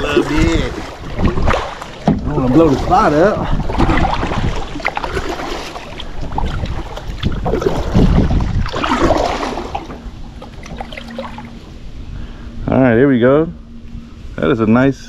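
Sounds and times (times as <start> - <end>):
water splashing around kayak: 0.0 - 12.2
wind buffeting microphone: 0.0 - 15.0.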